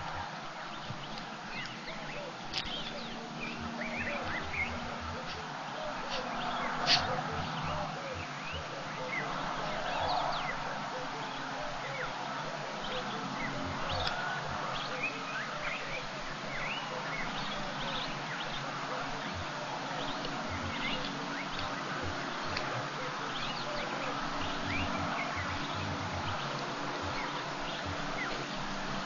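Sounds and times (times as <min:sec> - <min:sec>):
background hiss: 0:00.0 - 0:29.0.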